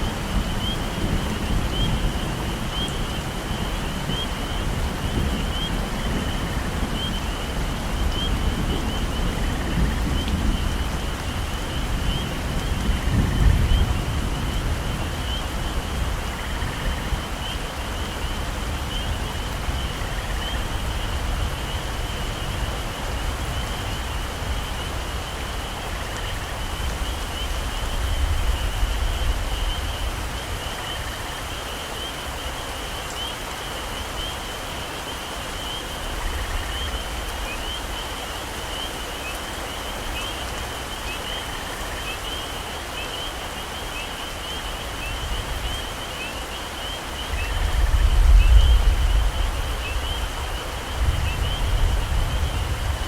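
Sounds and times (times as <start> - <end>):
heavy rain falling: 0.0 - 53.0
insects chirring: 0.0 - 53.0.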